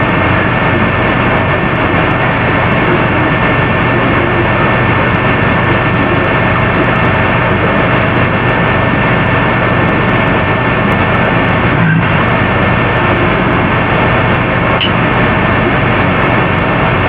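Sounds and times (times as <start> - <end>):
fans and air conditioning rushing: 0.0 - 17.0
high-pitched whine: 0.0 - 17.0
low hum: 0.0 - 17.0.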